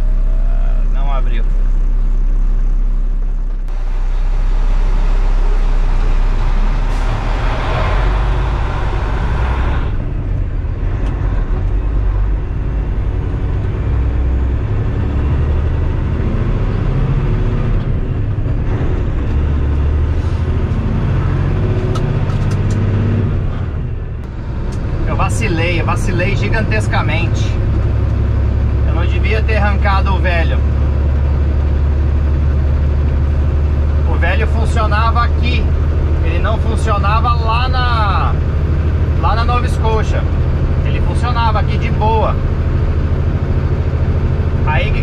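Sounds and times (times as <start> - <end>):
truck diesel engine accelerating: 0.0 - 45.0.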